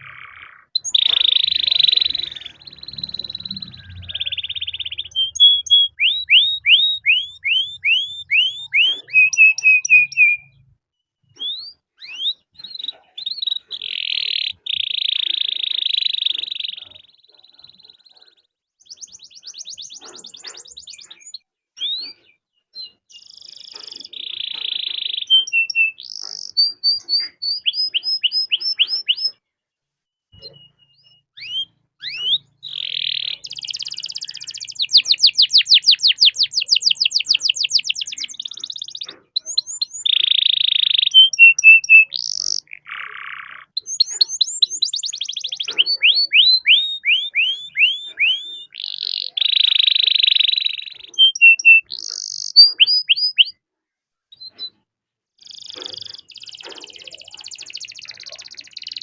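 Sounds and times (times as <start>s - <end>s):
canary singing trills: 0.0s - 29.5s, 30.3s - 53.6s, 54.3s - 59.0s.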